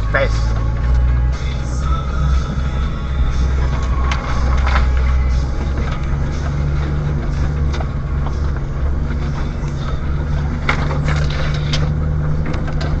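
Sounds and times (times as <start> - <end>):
brush scraping vehicle body: 0.0 - 13.0
vehicle engine running at low revs: 0.0 - 13.0.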